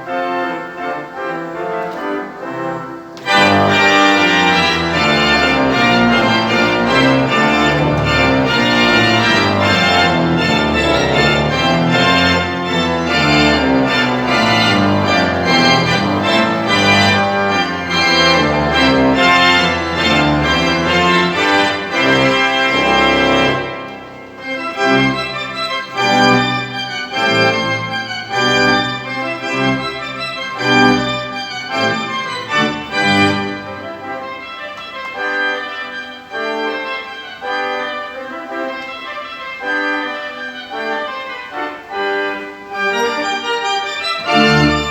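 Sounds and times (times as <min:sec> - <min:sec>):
pipe organ playing chords: 0:00.0 - 0:44.9.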